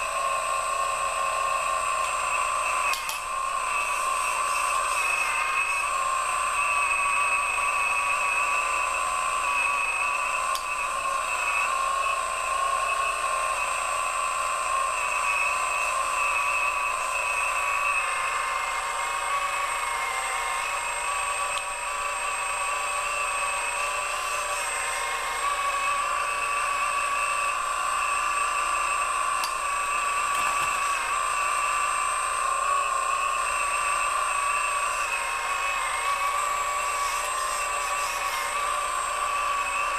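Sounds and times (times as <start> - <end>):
model excavator hydraulic whine: 0.0 - 39.9.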